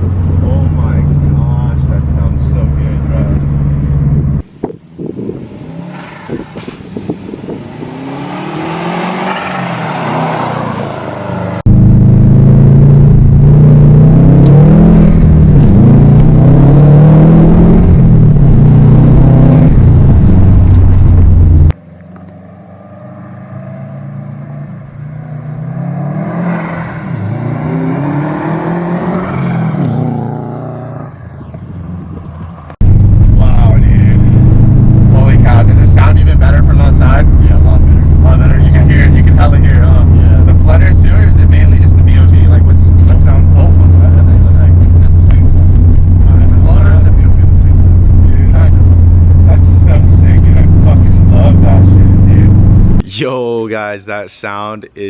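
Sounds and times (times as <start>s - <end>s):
car engine accelerating hard: 5.4s - 31.2s, 32.7s - 53.0s.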